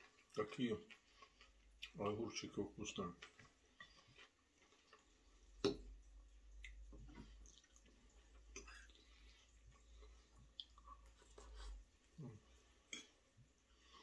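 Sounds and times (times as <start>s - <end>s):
wet mouth eating sounds: 0.0s - 2.0s, 3.2s - 13.2s.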